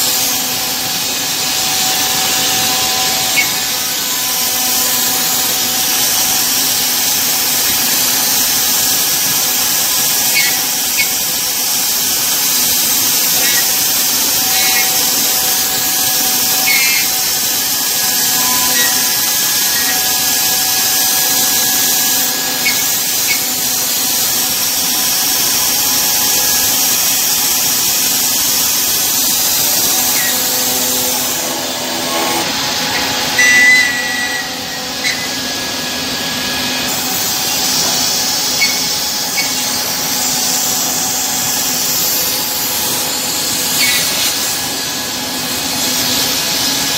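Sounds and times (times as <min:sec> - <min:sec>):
router spindle cutting wood: 0:00.0 - 0:46.9.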